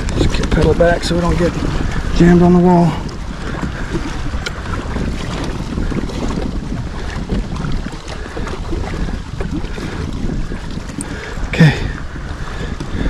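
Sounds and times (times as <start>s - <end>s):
water sloshing against hull: 0.0s - 13.0s
wind buffeting microphone: 0.0s - 13.0s.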